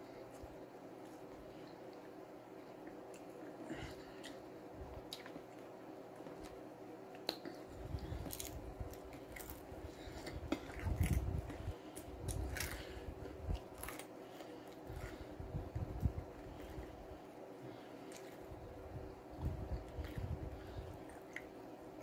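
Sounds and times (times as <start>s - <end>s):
person chewing food: 0.3s - 22.0s.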